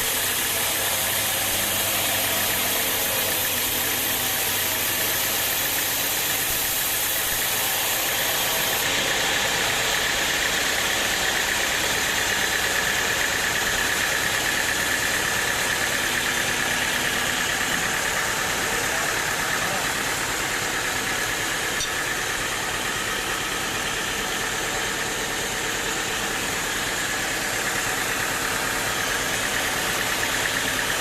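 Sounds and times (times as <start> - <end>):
sawmill machinery hissing: 0.0 - 31.0
steady high whine: 0.0 - 31.0.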